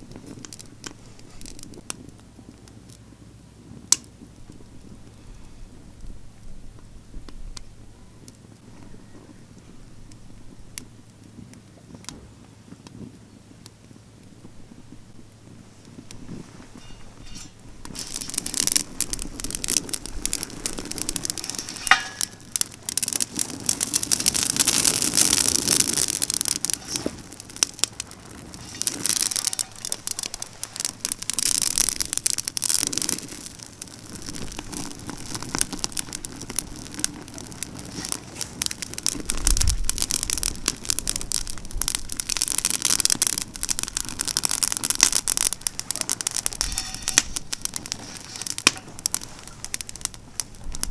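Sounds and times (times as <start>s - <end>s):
fire crackling and popping: 0.0s - 50.9s.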